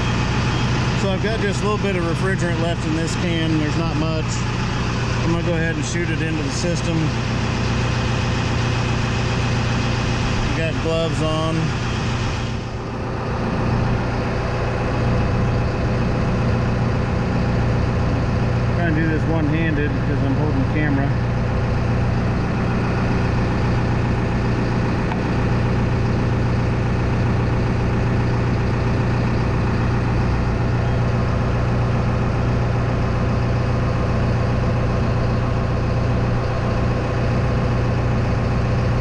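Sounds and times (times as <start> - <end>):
air conditioning running: 0.0 - 39.0
diesel engine idling: 0.0 - 39.0.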